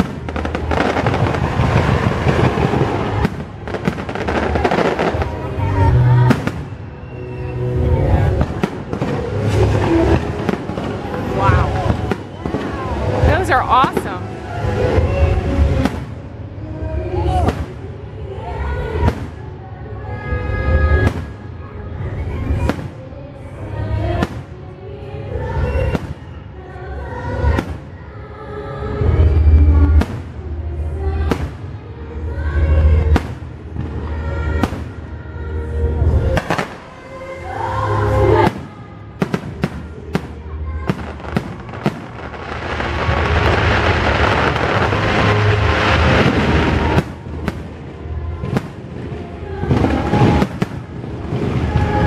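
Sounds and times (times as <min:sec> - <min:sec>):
fireworks bursting: 0:00.0 - 0:19.6, 0:20.2 - 0:23.2, 0:23.8 - 0:28.1, 0:29.0 - 0:52.0
music playing: 0:00.0 - 0:52.0.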